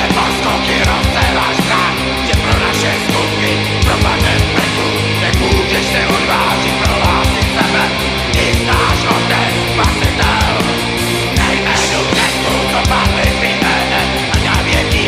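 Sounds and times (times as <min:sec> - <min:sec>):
distorted guitars and bass: 0:00.0 - 0:15.0
fast drums: 0:00.0 - 0:15.0.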